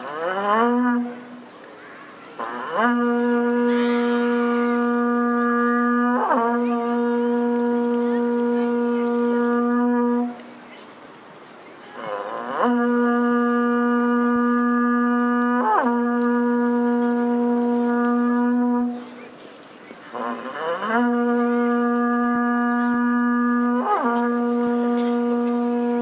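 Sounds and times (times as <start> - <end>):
conch-shell trumpet blasts: 2.4 - 10.4, 12.1 - 19.1, 20.1 - 26.0.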